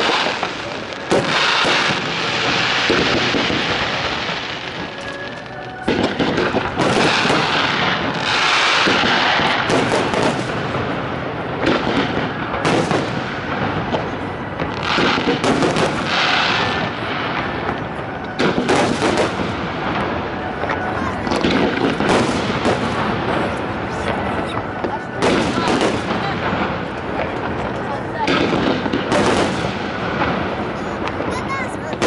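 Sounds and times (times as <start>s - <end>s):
firework bangs: 0.0s - 32.0s
firework crackling: 0.0s - 32.0s.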